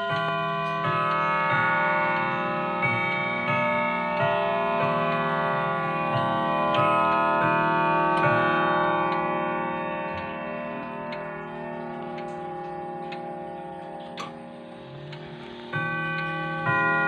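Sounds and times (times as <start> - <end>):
clock chimes ringing: 0.0 - 17.0
clock ticking: 0.0 - 17.0.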